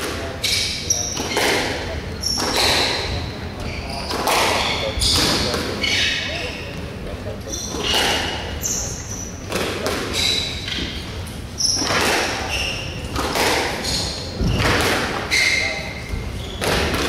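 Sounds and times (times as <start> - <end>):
squash ball hitting rackets and walls: 0.0 - 6.6, 7.5 - 17.0
shoes squeaking on wooden floor: 2.2 - 9.4, 10.1 - 17.0.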